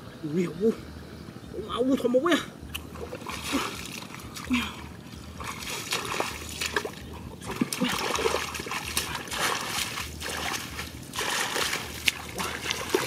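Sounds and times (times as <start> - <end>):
water splashing and trickling: 1.8 - 13.0.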